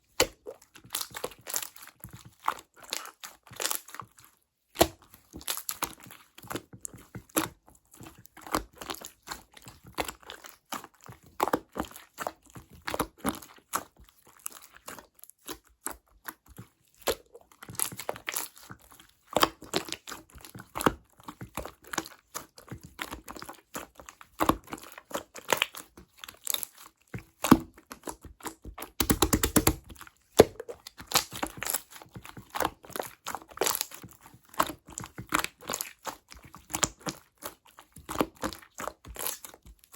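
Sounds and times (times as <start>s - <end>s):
slime squishing with sticky pops: 0.1s - 39.9s.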